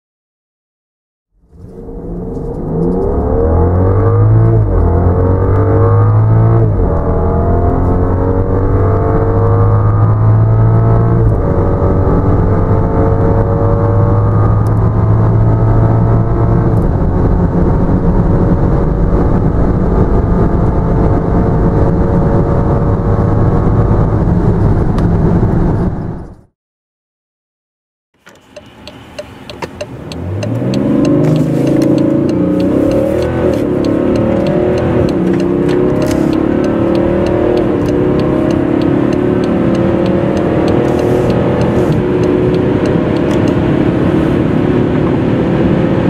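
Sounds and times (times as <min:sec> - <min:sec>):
car engine accelerating: 0:01.4 - 0:25.7, 0:28.2 - 0:46.0.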